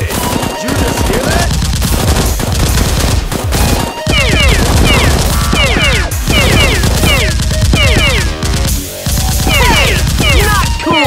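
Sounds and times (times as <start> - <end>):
background music: 0.0 - 11.0
rapid automatic gunfire effects: 0.0 - 11.0.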